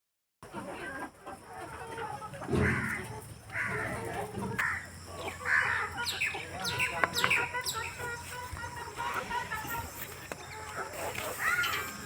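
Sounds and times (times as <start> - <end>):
hens calling: 0.4 - 12.0.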